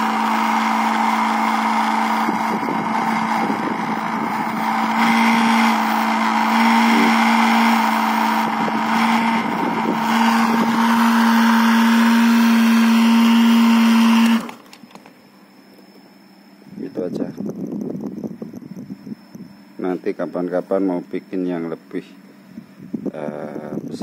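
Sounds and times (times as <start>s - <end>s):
small electric motor humming and whining: 0.0s - 24.0s.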